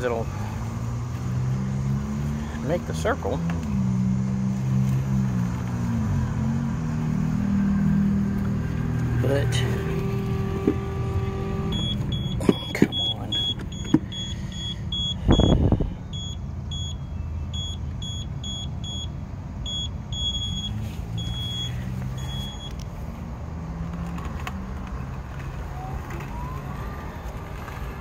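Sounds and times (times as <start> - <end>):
low motor hum: 0.0 - 17.8, 20.6 - 28.0.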